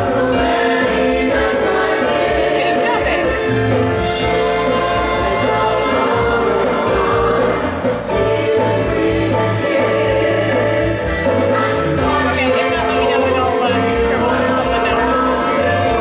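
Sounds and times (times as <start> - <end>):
group singing together: 0.0 - 16.0
live band with drums and bass: 0.0 - 16.0.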